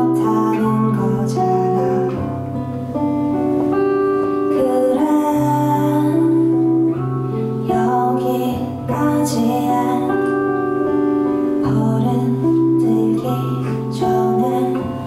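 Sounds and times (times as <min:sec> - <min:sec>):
woman singing: 0:00.0 - 0:02.7, 0:03.6 - 0:15.0
acoustic guitar: 0:00.0 - 0:15.0.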